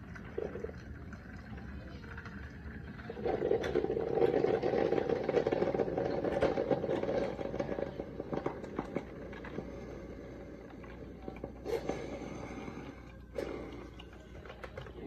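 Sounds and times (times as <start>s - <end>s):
coffee maker sputtering and gurgling: 0.0s - 15.0s.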